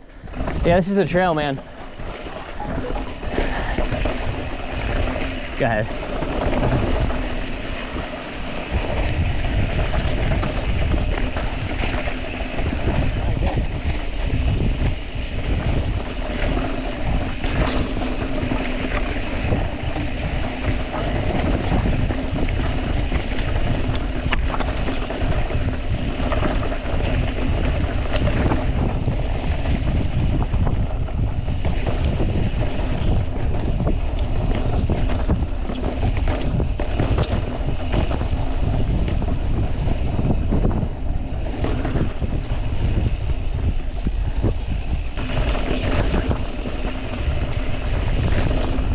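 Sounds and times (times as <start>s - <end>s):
bike rattling: 0.0s - 48.9s
bike tyres rolling: 0.0s - 48.9s
wind rushing over microphone: 0.0s - 48.9s.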